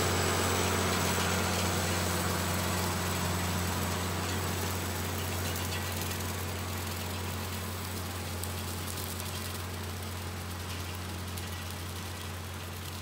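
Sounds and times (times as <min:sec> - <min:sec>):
rotary cutter cutting grass: 0:00.0 - 0:13.0
tractor diesel engine running: 0:00.0 - 0:13.0.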